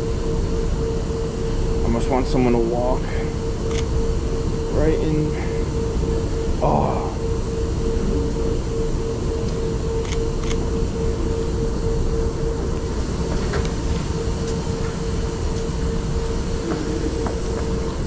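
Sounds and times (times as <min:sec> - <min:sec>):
held hum tone: 0:00.0 - 0:18.0
train low rumble: 0:00.0 - 0:18.0.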